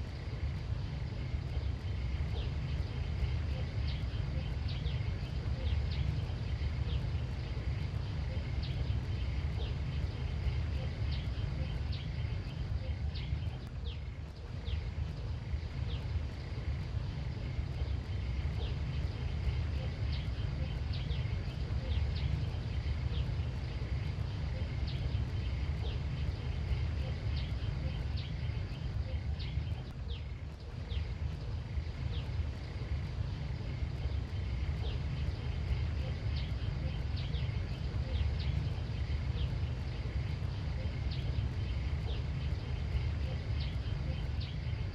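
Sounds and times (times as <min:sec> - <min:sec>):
faint insect drone: 0:00.0 - 0:44.9.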